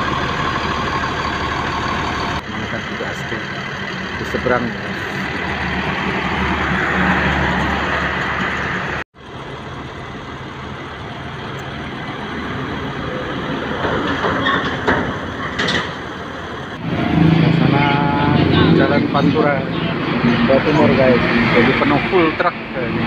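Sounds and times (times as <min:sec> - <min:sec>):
heavy road traffic: 0:00.0 - 0:23.0
truck diesel engines: 0:00.0 - 0:23.0.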